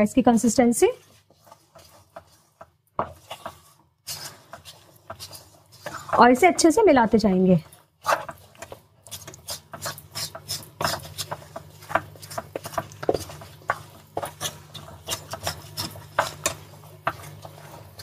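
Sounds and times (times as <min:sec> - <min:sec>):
spatula scraping metal pan: 0:00.6 - 0:06.7, 0:07.6 - 0:18.0.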